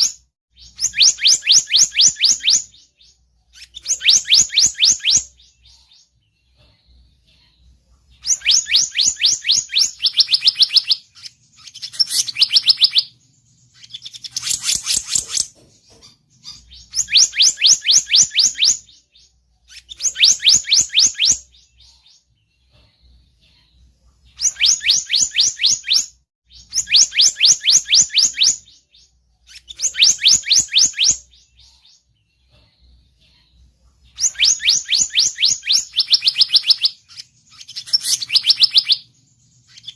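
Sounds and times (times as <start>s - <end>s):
rapid high bird chirping: 0.0s - 39.9s.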